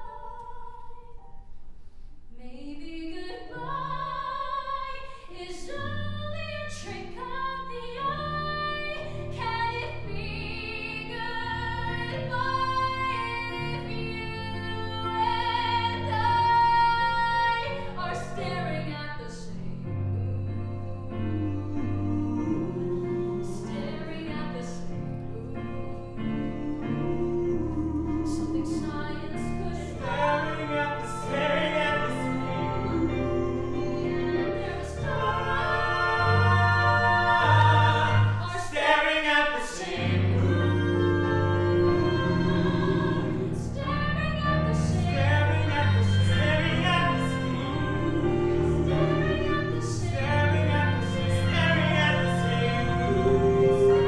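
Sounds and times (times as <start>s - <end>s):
sung voices: 2.4s - 54.0s.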